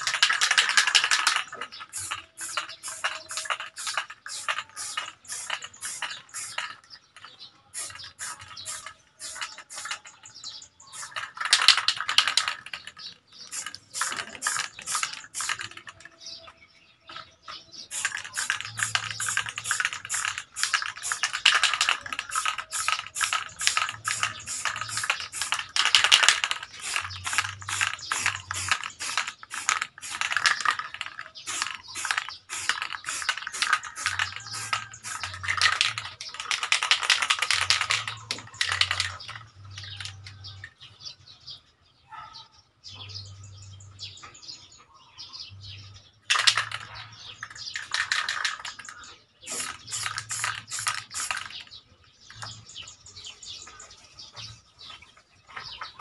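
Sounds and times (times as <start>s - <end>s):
aerosol can ball rattling: 0.0s - 17.2s, 17.9s - 40.6s, 46.3s - 51.7s.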